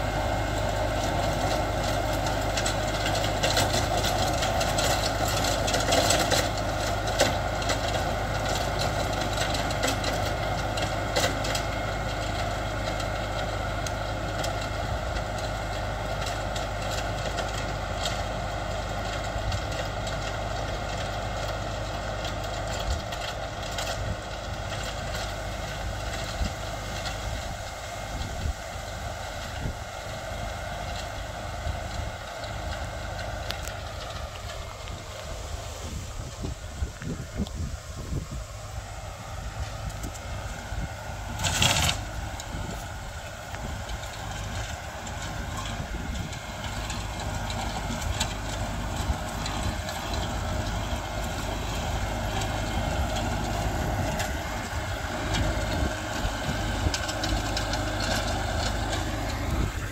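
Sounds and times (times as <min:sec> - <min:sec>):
crackling tiller tines: 0:00.0 - 0:59.9
rotary tiller churning soil: 0:00.0 - 0:59.9
tractor diesel engine under load: 0:00.0 - 0:59.9.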